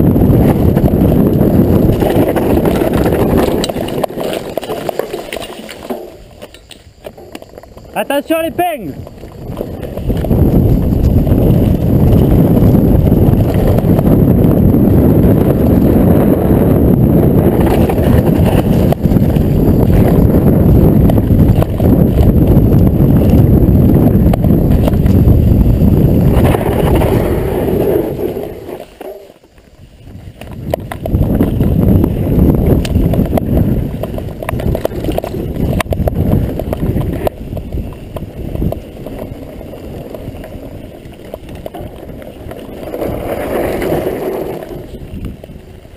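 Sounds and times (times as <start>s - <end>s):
bike rumble and clatter: 0.0s - 45.9s
wind buffeting microphone: 0.0s - 45.9s.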